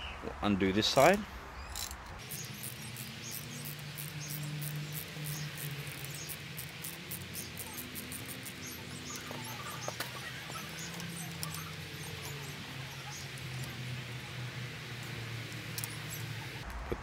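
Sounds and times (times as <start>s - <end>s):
insects chirping: 1.6s - 16.6s.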